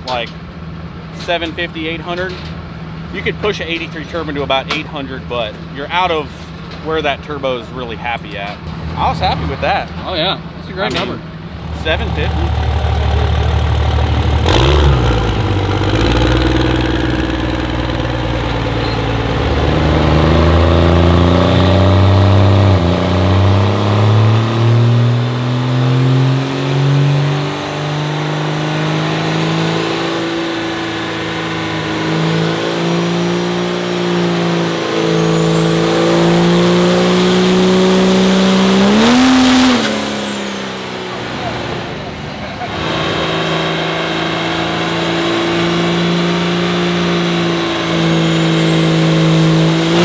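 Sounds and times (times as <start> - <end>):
diesel engine under full load: 0.0 - 50.0.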